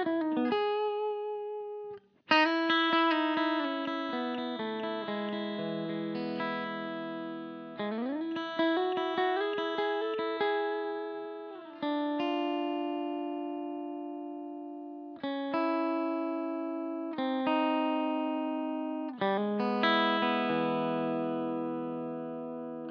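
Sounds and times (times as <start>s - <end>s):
electric guitar chord ringing: 0.0s - 22.9s
electric guitar single notes: 0.0s - 22.9s.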